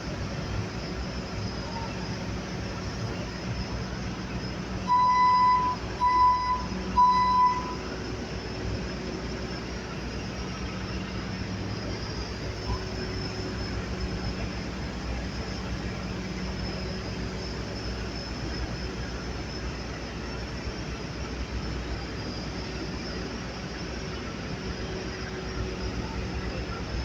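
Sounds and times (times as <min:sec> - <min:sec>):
skid steer loader engine running: 0:00.0 - 0:27.0.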